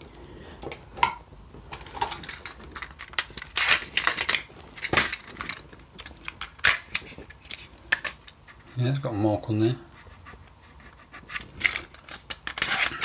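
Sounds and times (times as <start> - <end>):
small hard-plastic clicks and crackles: 0.1 - 9.0, 11.3 - 13.0.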